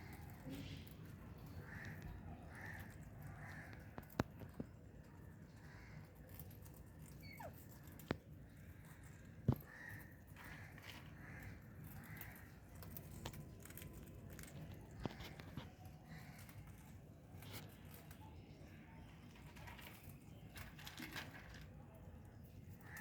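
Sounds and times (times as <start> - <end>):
parakeets crunching food: 0.0 - 23.0.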